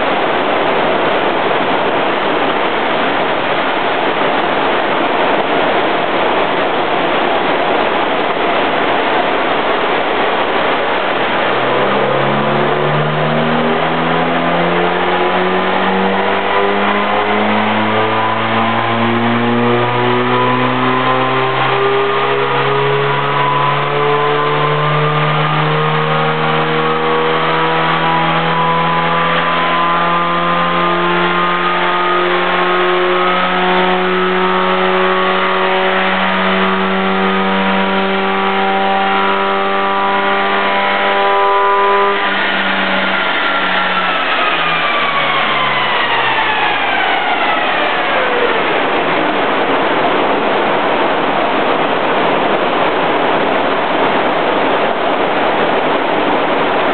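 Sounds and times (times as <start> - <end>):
loud rushing noise: 0.0 - 39.1, 39.8 - 56.9
car engine at full throttle: 0.0 - 56.9.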